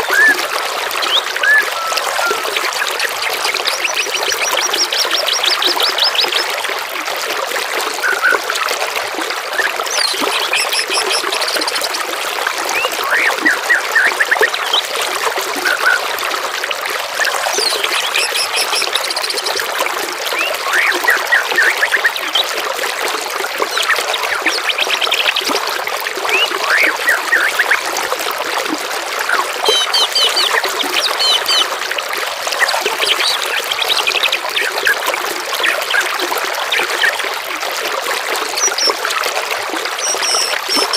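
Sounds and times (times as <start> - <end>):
trickling running water: 0.0 - 40.9.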